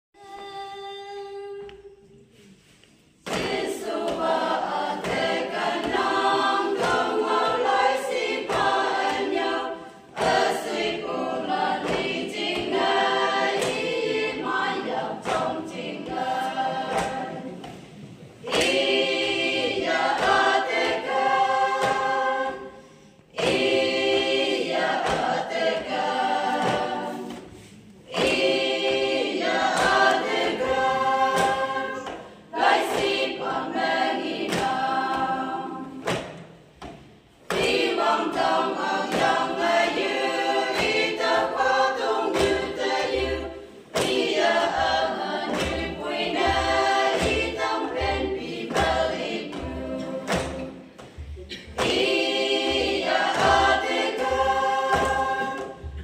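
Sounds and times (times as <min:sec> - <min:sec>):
women singing a cappella: 0:00.2 - 0:56.0.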